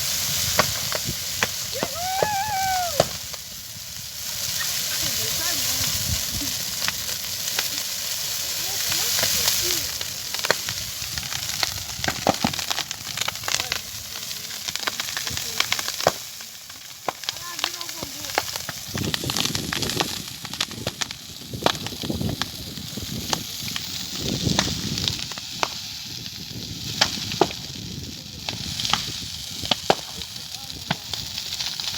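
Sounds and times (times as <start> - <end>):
fire crackling and popping: 0.0 - 31.9
fire hissing: 0.0 - 31.9.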